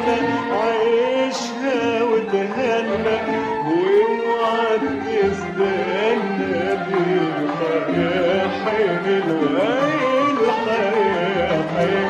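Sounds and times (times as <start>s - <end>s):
instrumental backing: 0.0s - 12.0s
person singing melodic lines: 0.0s - 12.0s.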